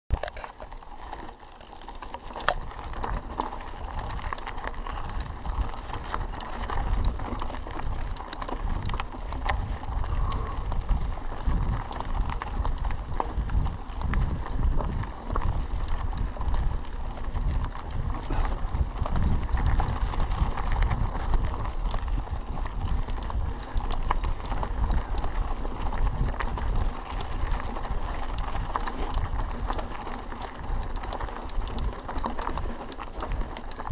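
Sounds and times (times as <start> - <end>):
bike clicks and rattles: 0.1 - 33.9
bike tyres rolling over dirt: 0.1 - 33.9.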